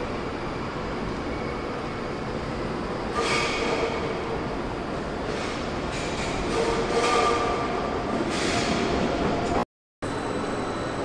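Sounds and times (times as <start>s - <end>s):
rumble of rail traffic: 0.0s - 11.0s.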